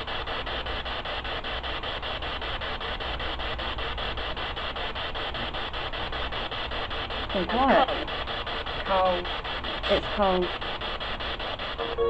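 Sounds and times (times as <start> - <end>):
pulsing radio static: 0.0 - 12.0.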